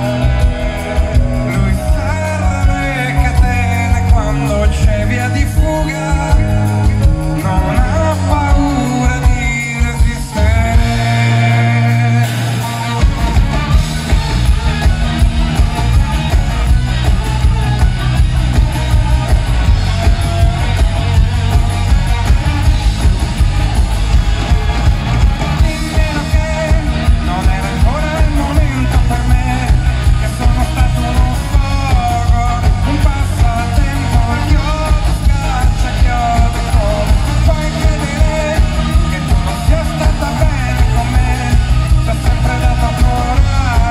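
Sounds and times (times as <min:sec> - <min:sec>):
man singing: 0:00.0 - 0:23.8, 0:24.5 - 0:43.9
live rock band: 0:00.0 - 0:43.9.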